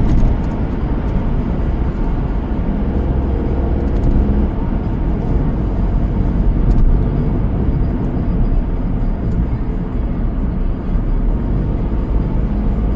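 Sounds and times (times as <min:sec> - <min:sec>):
car road and engine rumble: 0:00.0 - 0:12.9
faint engine hum: 0:00.0 - 0:12.9.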